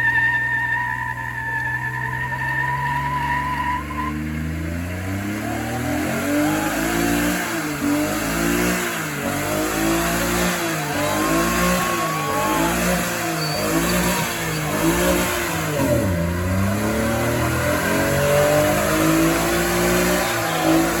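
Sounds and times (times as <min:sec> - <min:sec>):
vehicle engine revving hard: 0:03.8 - 0:21.0.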